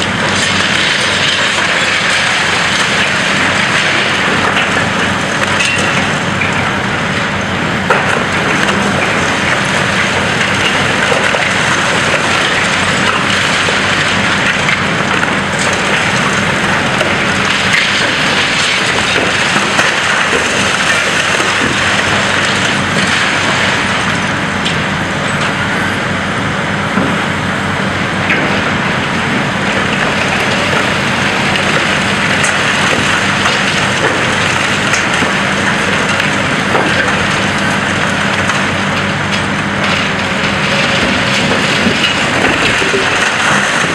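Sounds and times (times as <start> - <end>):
concrete breaking and crackling: 0.0 - 26.0, 26.9 - 43.9
diesel engine hum: 0.0 - 43.9.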